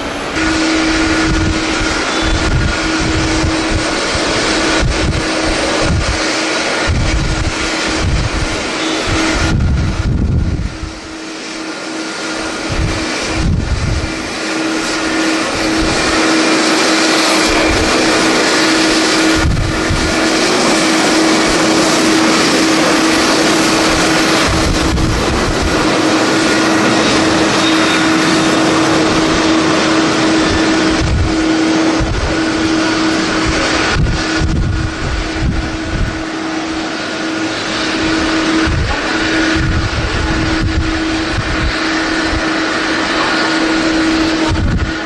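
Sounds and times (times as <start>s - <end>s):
jet engines roaring: 0.0s - 45.0s
wind buffeting microphone: 0.0s - 45.0s.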